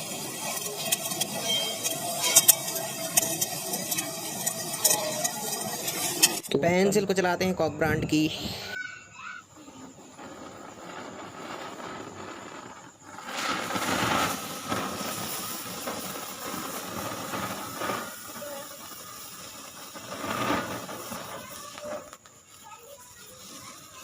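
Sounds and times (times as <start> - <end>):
firework hissing sparks: 0.0 - 24.0.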